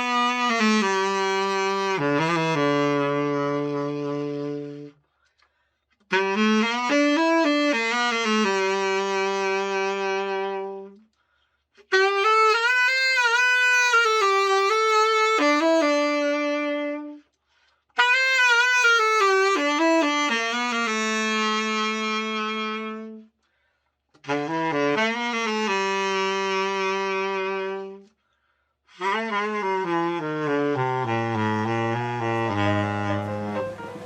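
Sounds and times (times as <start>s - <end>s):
tenor saxophone melody: 0.0s - 5.0s, 6.0s - 11.1s, 11.8s - 17.3s, 18.0s - 23.4s, 24.2s - 28.2s, 28.9s - 34.0s.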